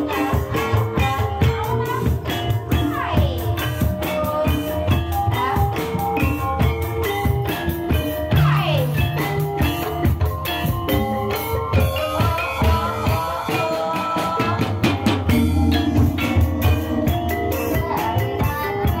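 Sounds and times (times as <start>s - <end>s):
drum and percussion rhythm: 0.0s - 19.0s.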